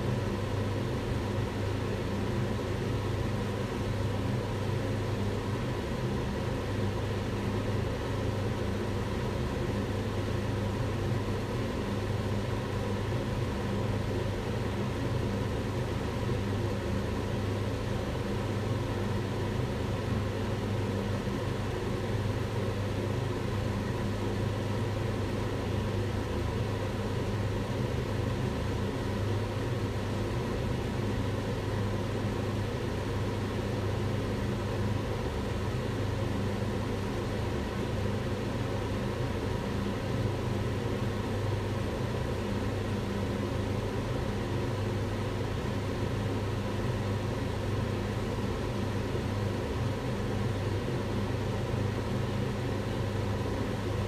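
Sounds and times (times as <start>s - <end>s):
range hood fan running: 0.0s - 54.0s.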